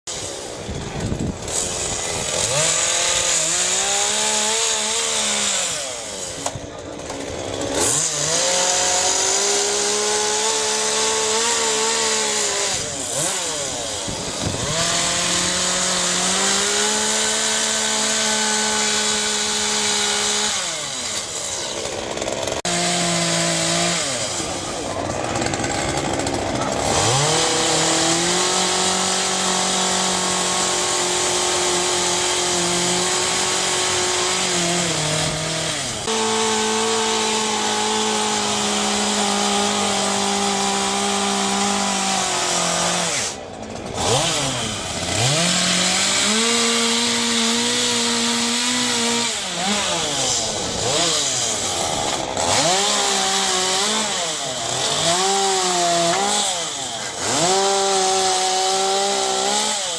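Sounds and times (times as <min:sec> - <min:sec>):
chainsaw cutting and revving: 0:00.1 - 0:59.9.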